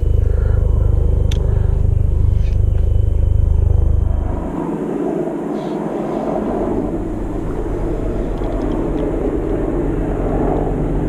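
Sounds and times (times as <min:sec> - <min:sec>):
distant engine rumble: 0:00.0 - 0:11.0.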